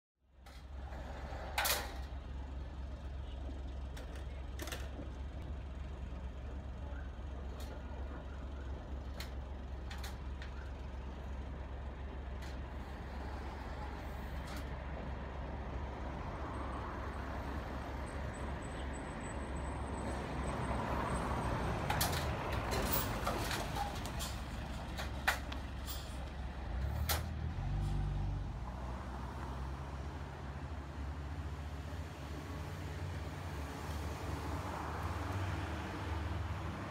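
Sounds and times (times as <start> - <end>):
street traffic rumble: 0.2 - 36.9.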